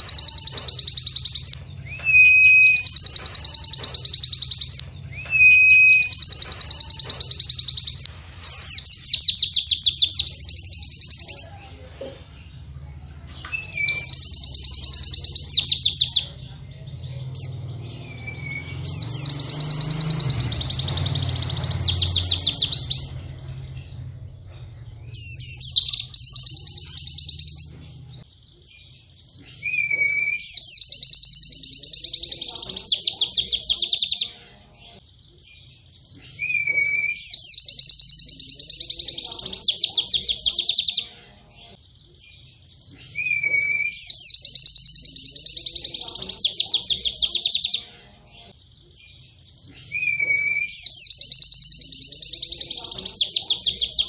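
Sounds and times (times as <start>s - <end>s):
bird trilling song: 0.0s - 54.0s.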